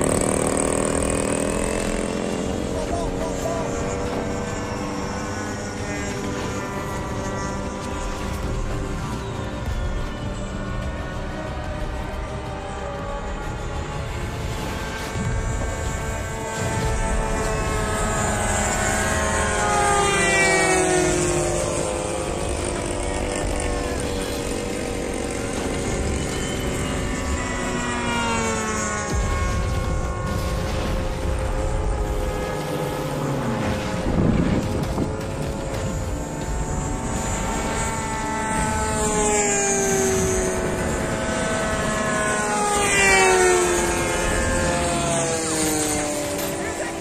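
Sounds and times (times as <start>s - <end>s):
model airplane engines droning: 0.0s - 47.0s.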